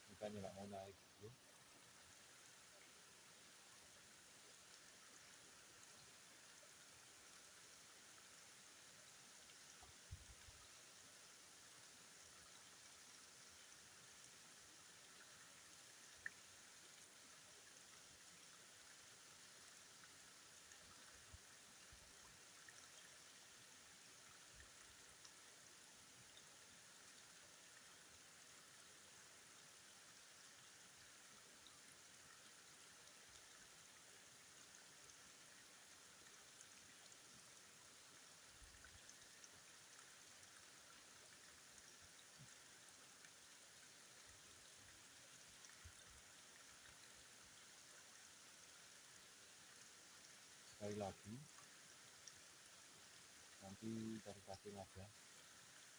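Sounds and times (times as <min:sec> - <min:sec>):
faint river water rushing: 0:00.0 - 0:55.9.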